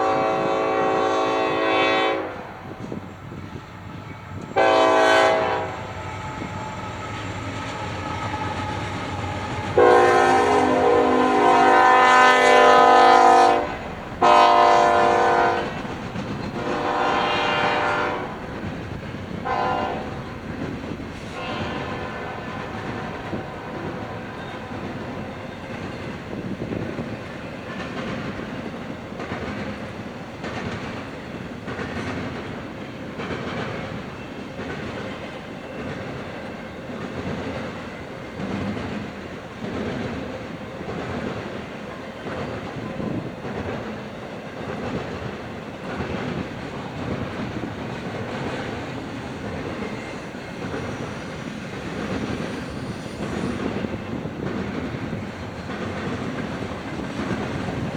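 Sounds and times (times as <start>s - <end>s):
freight train cars rolling: 0.0s - 57.9s
wheels clacking over rail joints: 4.2s - 57.9s.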